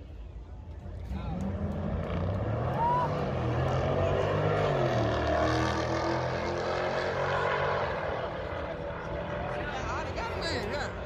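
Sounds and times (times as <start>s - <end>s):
drag racing car engines: 0.1s - 11.0s.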